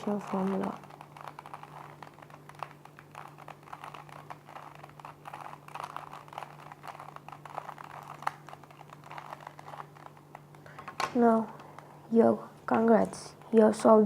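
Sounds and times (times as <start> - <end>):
puzzle cube clicking and rattling: 0.0 - 11.9.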